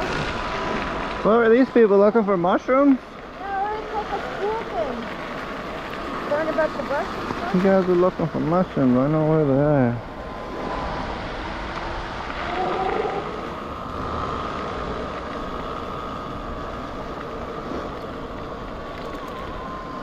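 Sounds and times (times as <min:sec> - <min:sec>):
electric motor whine: 0:00.0 - 0:20.0
rushing noise: 0:00.0 - 0:20.0.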